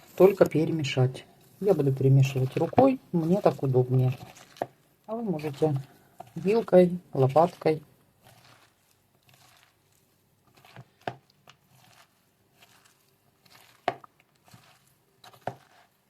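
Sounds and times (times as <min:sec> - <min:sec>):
salad crunching and wet rustling: 0:00.0 - 0:16.0.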